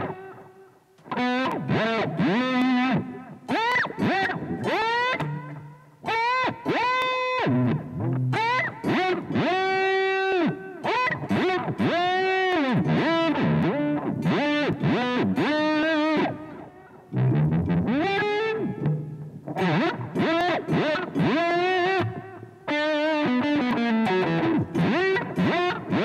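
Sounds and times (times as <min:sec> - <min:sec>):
electric guitar pitch dive bombs: 0:00.0 - 0:26.0.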